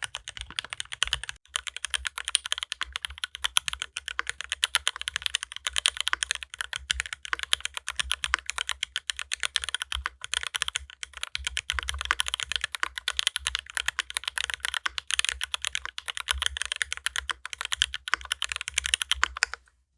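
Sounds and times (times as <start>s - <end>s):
fast mechanical keyboard typing: 0.0s - 19.6s.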